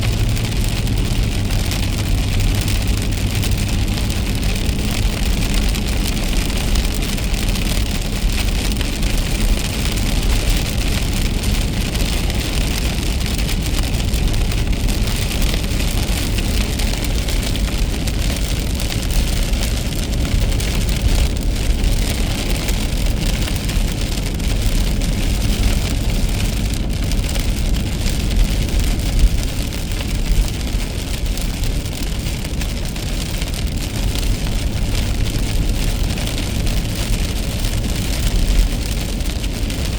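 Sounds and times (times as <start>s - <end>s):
low car rumble: 0.0s - 39.9s
rain hiss: 0.0s - 39.9s
tyres on wet road: 0.0s - 39.9s.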